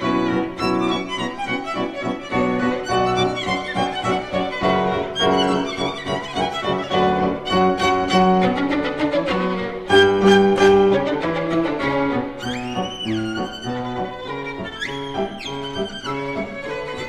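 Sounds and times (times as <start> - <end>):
violin-led instrumental music: 0.0 - 17.0.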